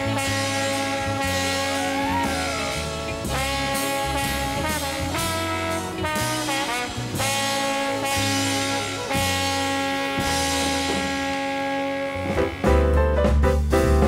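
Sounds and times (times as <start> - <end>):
jazzy brass band music: 0.0 - 14.0.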